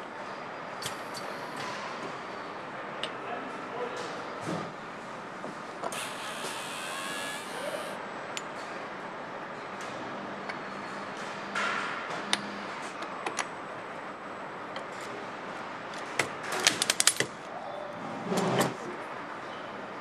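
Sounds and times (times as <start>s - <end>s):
factory machinery hum: 0.0s - 16.5s.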